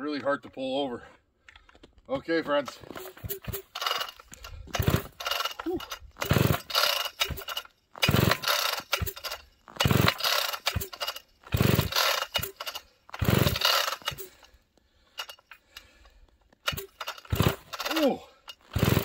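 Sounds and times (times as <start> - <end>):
chainsaw engine cranking: 2.4 - 19.0
starter rope clacking: 2.4 - 19.0.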